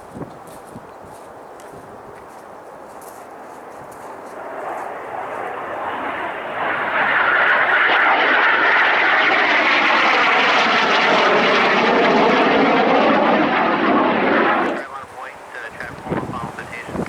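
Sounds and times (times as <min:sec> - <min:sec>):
airliner engines passing: 0:03.0 - 0:17.0.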